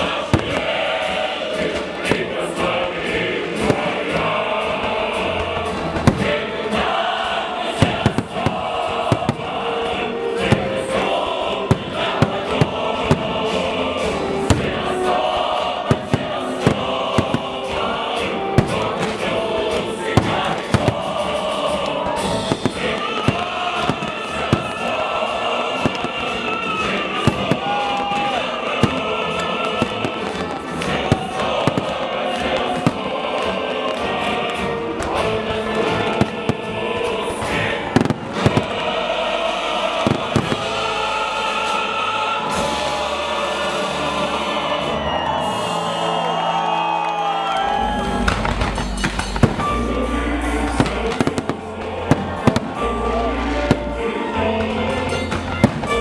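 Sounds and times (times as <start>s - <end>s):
fireworks bangs: 0.0s - 2.4s, 3.6s - 4.3s, 5.4s - 41.3s, 48.2s - 56.0s
music with choir singing: 0.0s - 56.0s.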